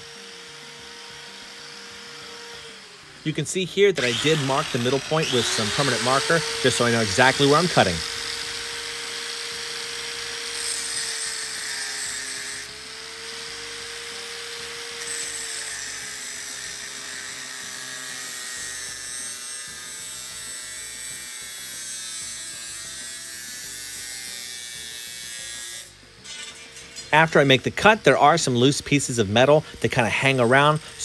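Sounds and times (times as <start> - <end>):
angle grinder grinding metal: 0.0 - 31.0.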